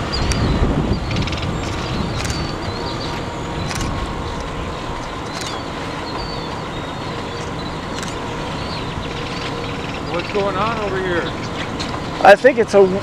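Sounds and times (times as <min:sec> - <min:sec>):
wind noise: 0:00.0 - 0:12.1
vehicle engine idling: 0:00.0 - 0:13.0.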